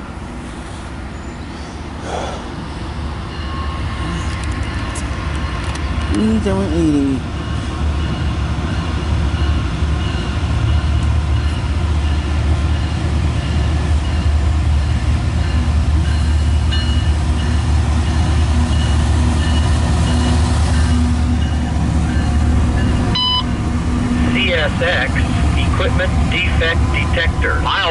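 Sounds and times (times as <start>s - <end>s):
coal cars rolling rumble: 0.0s - 27.9s.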